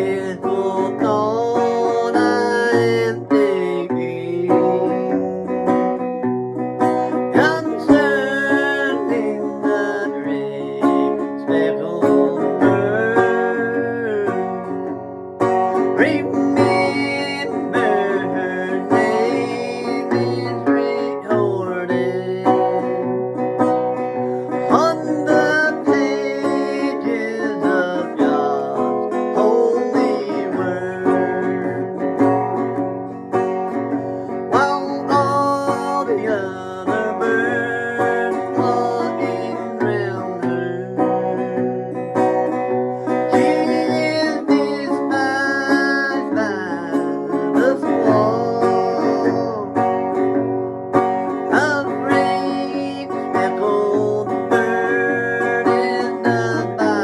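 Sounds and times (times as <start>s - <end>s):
country music on plucked guitar: 0.0s - 57.0s.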